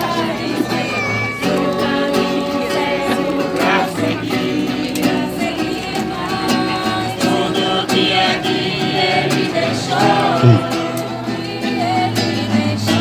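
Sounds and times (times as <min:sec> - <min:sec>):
several voices singing a hymn: 0:00.0 - 0:13.0
strummed acoustic guitar: 0:00.0 - 0:13.0.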